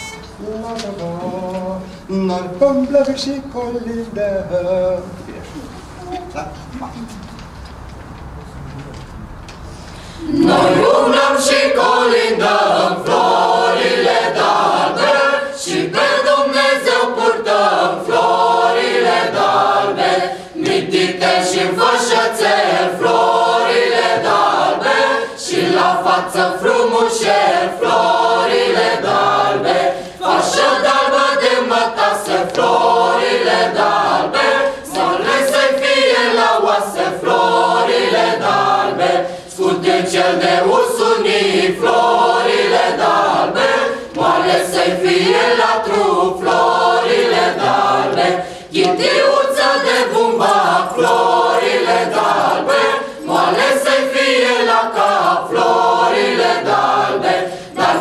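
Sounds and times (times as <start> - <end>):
choir of young voices singing: 10.1 - 58.0.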